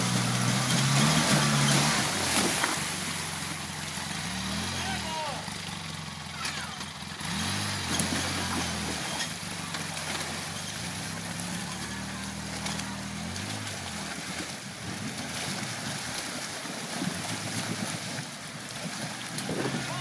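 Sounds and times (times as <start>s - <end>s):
vehicle engine running: 0.0s - 20.0s
water rushing and churning: 0.0s - 20.0s.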